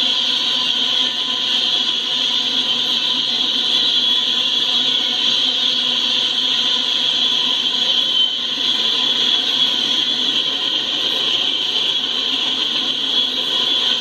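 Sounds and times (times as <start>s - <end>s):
high continuous whine: 0.0s - 14.0s.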